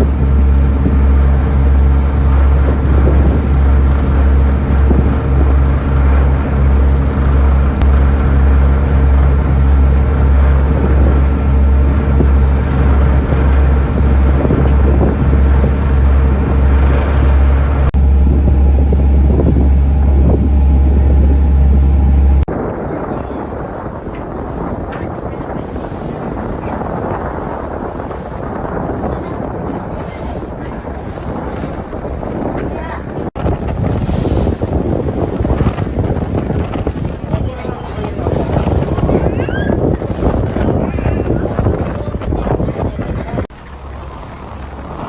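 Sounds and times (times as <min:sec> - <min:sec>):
ship engines droning: 0:00.0 - 0:45.0.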